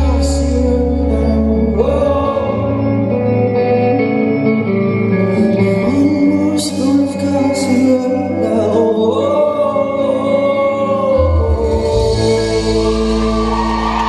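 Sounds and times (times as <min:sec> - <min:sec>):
man singing long notes: 0:00.0 - 0:03.5, 0:05.1 - 0:14.0
live band playing: 0:00.0 - 0:14.0.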